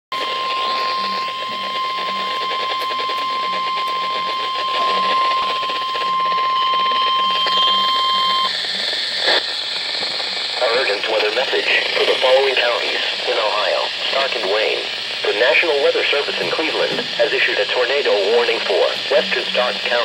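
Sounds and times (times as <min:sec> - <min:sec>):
weather radio alarm tone: 0:00.1 - 0:09.4, 0:10.6 - 0:20.0
radio static: 0:00.1 - 0:20.0.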